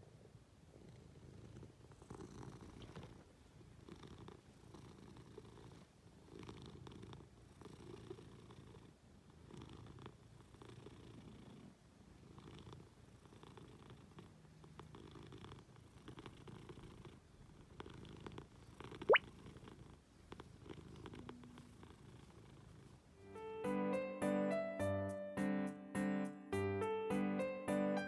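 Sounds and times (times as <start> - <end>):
cat purring: 0.0 - 23.2.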